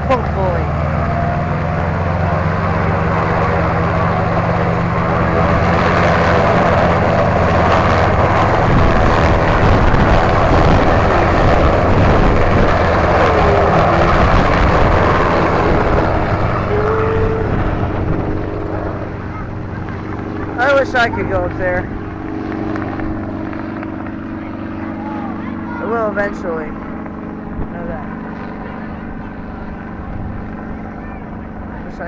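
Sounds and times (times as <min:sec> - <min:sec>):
helicopter flying past: 0:00.0 - 0:32.0.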